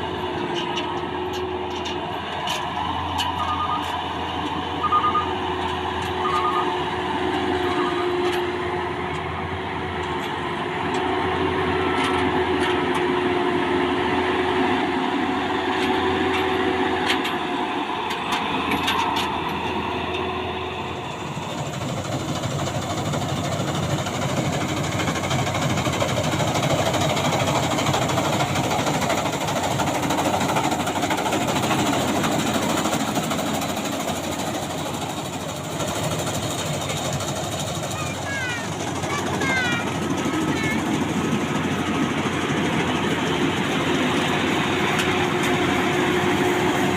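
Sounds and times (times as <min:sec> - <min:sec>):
combine harvester drone: 0:00.0 - 0:46.9
steady machine whine: 0:00.0 - 0:46.9.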